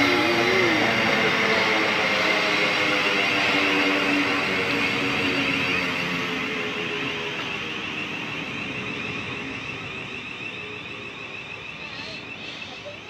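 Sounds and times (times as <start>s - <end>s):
electric train running: 0.0s - 13.0s
high motor whine: 0.0s - 13.0s.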